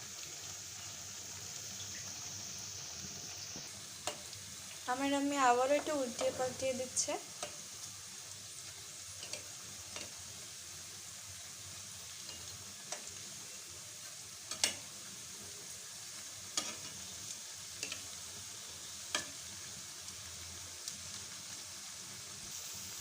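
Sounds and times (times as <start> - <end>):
fritters sizzling in hot oil: 0.0 - 23.0.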